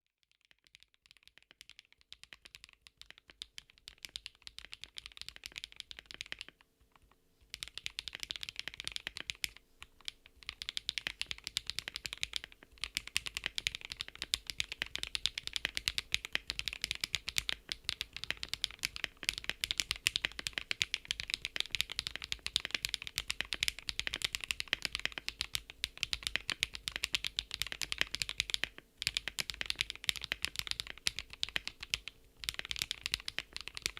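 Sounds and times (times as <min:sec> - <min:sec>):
keyboard typing: 0:00.2 - 0:33.9.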